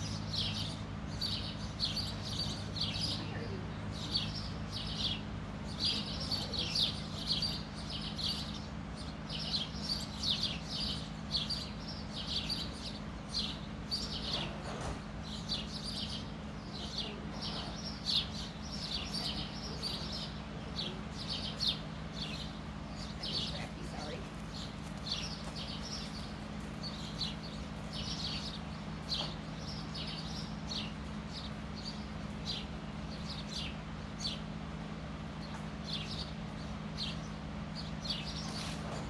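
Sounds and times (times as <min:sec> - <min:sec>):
small birds chirping: 0:00.0 - 0:39.0
steady low hum: 0:00.0 - 0:39.0.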